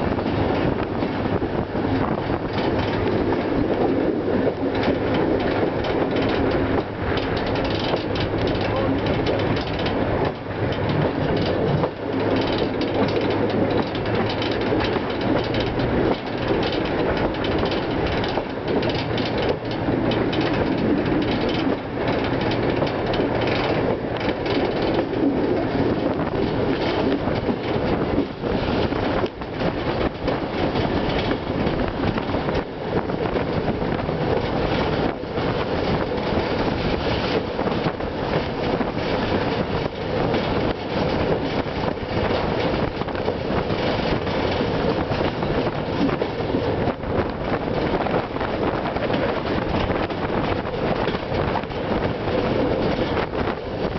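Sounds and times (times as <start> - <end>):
clacks over rail joints: 0.0 - 53.9
train wheels rumbling on rails: 0.0 - 53.9.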